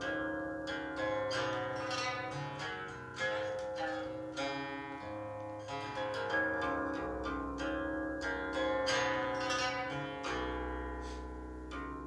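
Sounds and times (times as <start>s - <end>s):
zither plucked fast: 0.0s - 12.0s.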